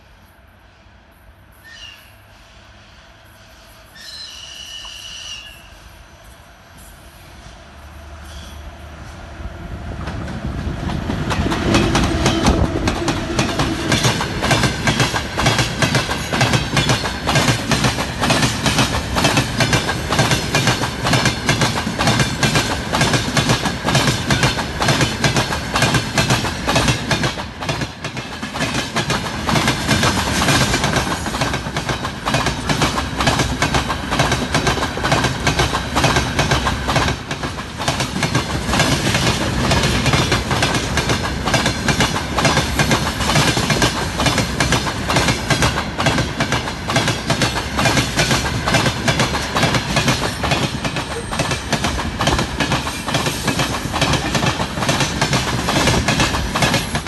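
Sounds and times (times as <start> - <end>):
train wheels clattering over rail joints: 10.0 - 57.0.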